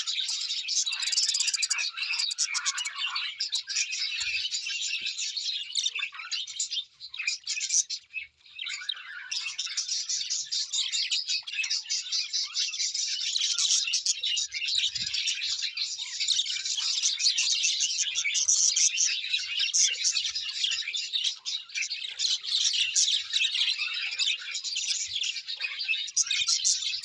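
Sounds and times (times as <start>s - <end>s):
birds chirping and twittering: 0.0s - 27.0s.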